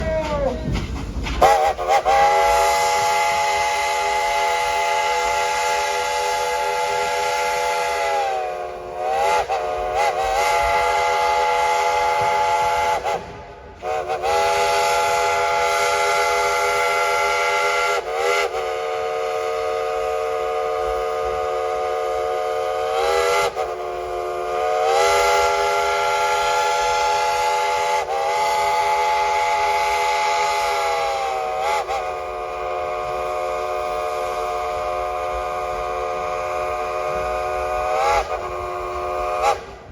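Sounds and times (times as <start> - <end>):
steam whistle chord blowing: 1.4 - 39.7.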